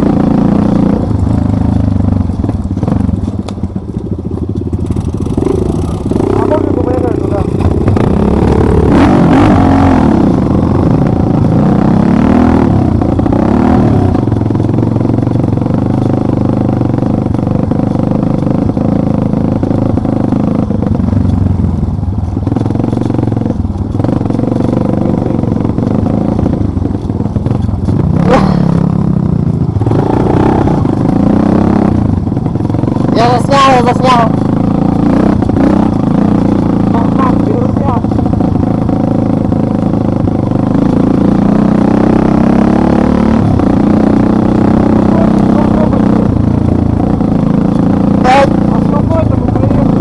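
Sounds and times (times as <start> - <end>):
off-road vehicle engine running: 0.0 - 50.0.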